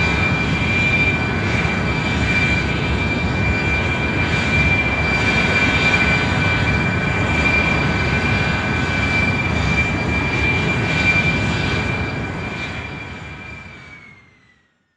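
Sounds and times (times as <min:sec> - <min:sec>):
airplane engine rumble and whine: 0:00.0 - 0:14.9.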